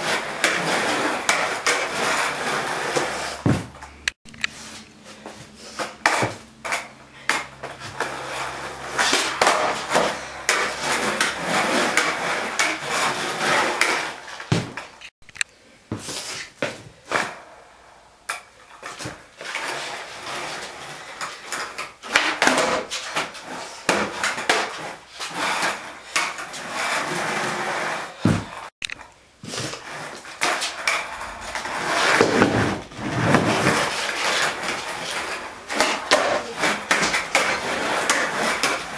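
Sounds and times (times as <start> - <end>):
skateboard wheels rolling on concrete: 0.0 - 15.1, 15.9 - 38.9.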